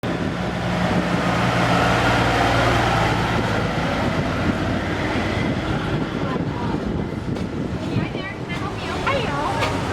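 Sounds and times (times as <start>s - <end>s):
heavy vehicle engine running: 0.0s - 9.9s.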